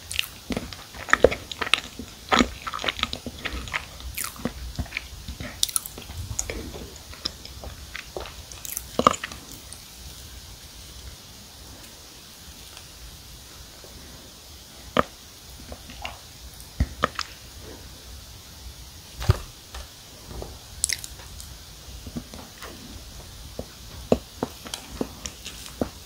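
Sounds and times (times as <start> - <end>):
cookie chewing: 0.0 - 13.0, 13.7 - 18.1, 19.2 - 26.0.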